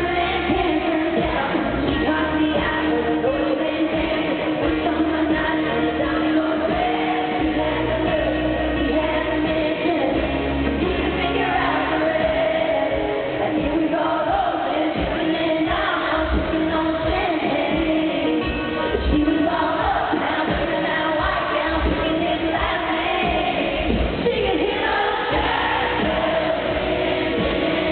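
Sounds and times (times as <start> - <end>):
live band playing: 0.0 - 27.9
woman singing: 0.0 - 27.9.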